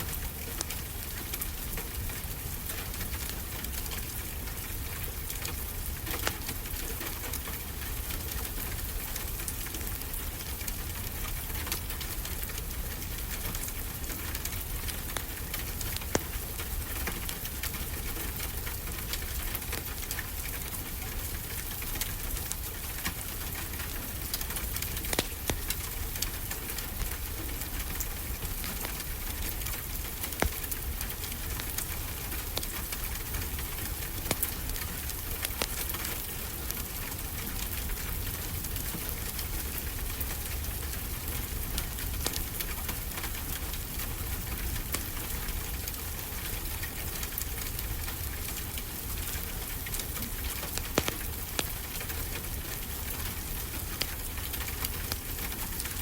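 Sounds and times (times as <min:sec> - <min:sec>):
rain falling: 0:00.0 - 0:56.0
wood fire crackling: 0:00.0 - 0:56.0.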